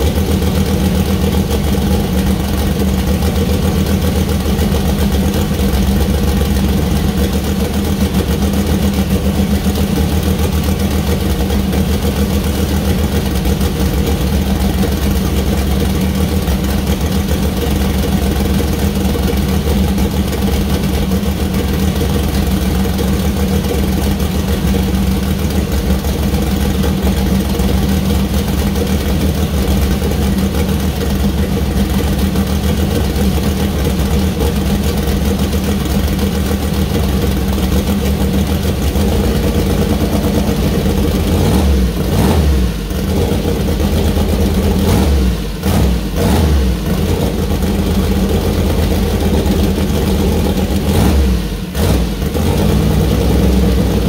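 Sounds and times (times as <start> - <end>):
car engine idling loudly: 0.0 - 54.0.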